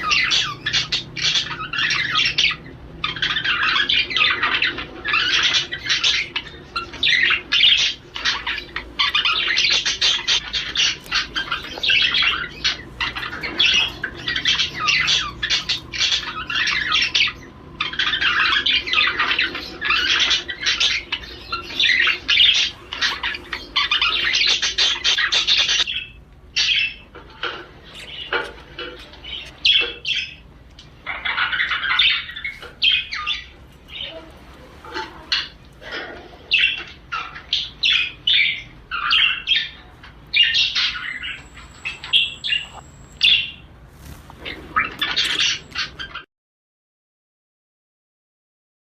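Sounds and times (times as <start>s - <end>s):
budgerigar warbling and chattering: 0.0s - 46.2s.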